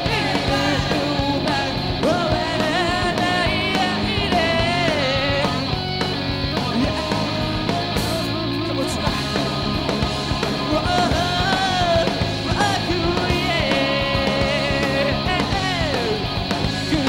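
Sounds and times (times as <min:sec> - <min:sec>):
person singing: 0:00.0 - 0:05.8, 0:06.6 - 0:17.0
live pop-punk band playing: 0:00.0 - 0:17.0.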